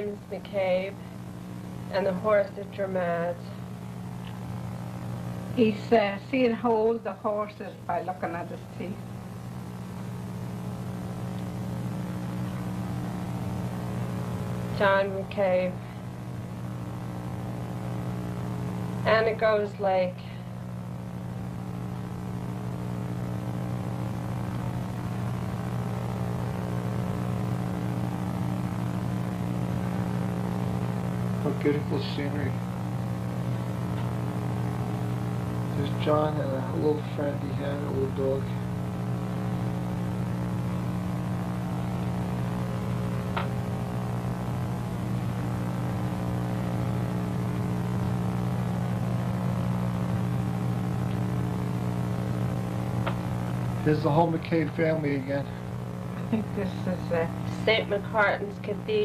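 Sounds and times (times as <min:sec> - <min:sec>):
low hum with overtones: 0:00.0 - 0:59.0.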